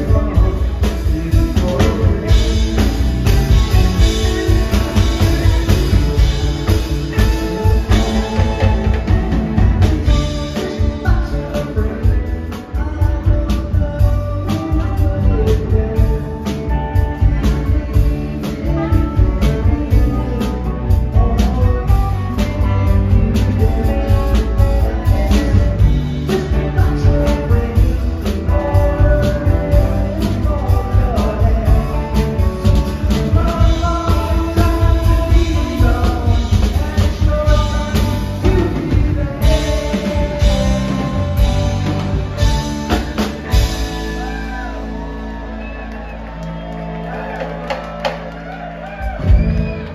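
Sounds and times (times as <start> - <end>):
person singing: 0.0 - 46.2
live rock band playing: 0.0 - 49.9.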